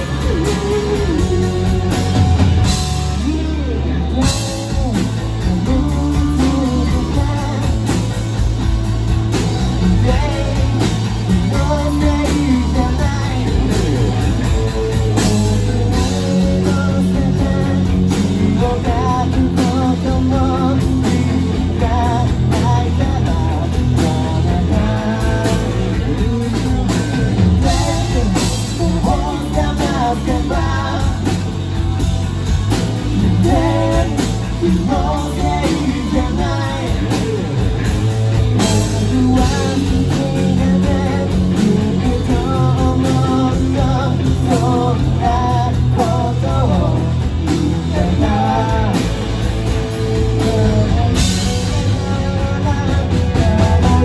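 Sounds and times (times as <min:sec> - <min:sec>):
person singing: 0:00.0 - 0:08.6, 0:09.3 - 0:54.0
live rock band playing: 0:00.0 - 0:54.0.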